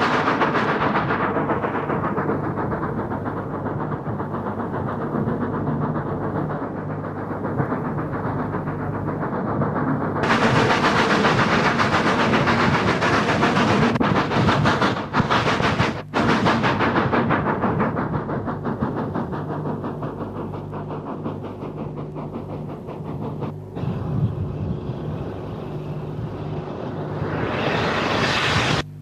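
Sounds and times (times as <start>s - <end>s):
wheels clattering on rails: 0.0s - 28.6s
steam hiss: 0.0s - 29.0s
steam train rumbling: 0.0s - 29.0s.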